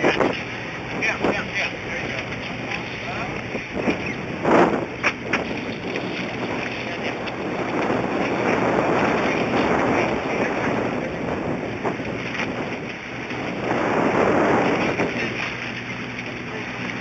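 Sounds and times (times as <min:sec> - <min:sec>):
boat engine droning low: 0:00.0 - 0:17.0
wind rushing over microphone: 0:00.0 - 0:17.0.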